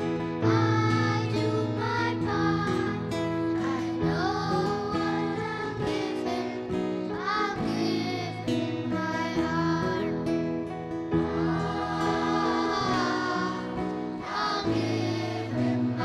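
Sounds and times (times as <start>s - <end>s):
guitar accompaniment: 0.0s - 16.0s
children singing a carol: 0.4s - 10.2s, 11.2s - 16.0s.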